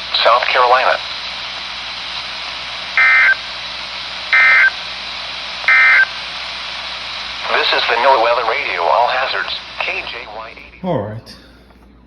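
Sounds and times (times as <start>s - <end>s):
radio hiss: 0.0s - 11.4s.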